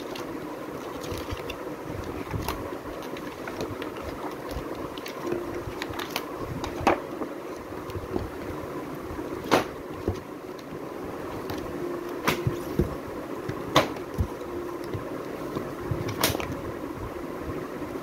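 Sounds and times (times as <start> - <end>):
book pages flipping: 0.0 - 8.4, 9.4 - 16.6
steady background hum: 0.0 - 18.0.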